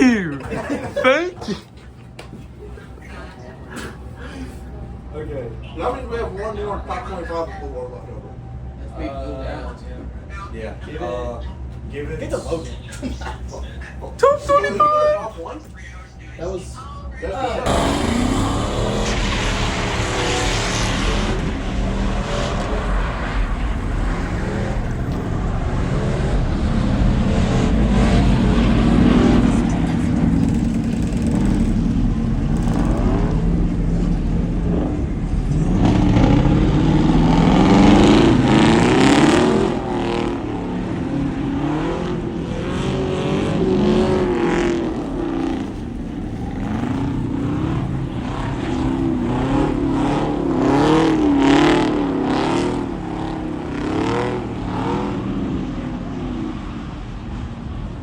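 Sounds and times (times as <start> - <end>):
truck engines revving: 0.0 - 16.3, 17.4 - 58.0.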